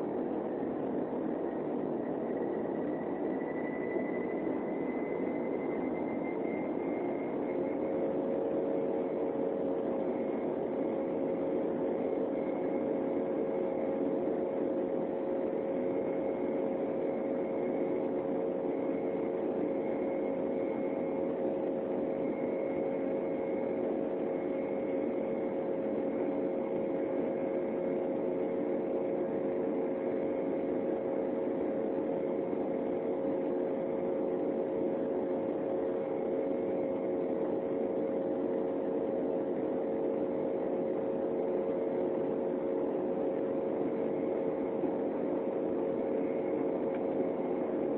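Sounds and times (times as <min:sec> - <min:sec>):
mid-pitched hum: 0:00.0 - 0:47.9.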